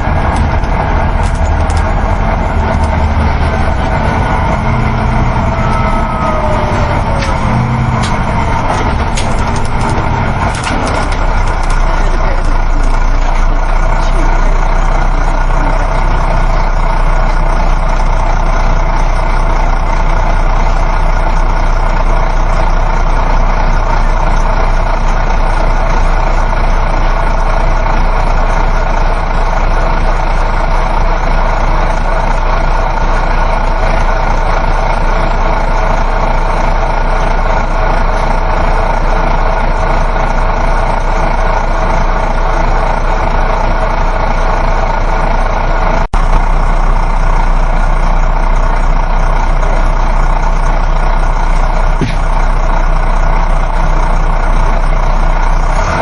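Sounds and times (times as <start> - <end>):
bus engine drone: 0.0 - 56.0
road rumble: 0.0 - 56.0.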